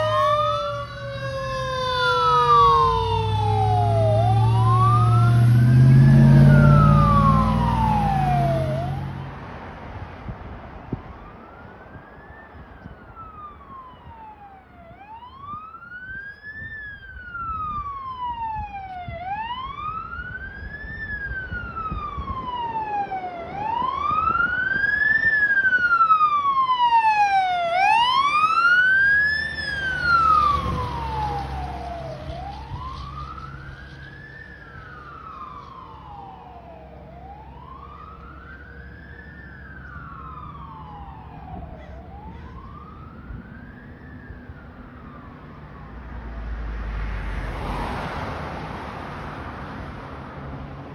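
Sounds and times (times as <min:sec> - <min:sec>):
fire engine rumble: 0:00.0 - 0:46.0
fire engine siren wailing: 0:00.0 - 0:50.9.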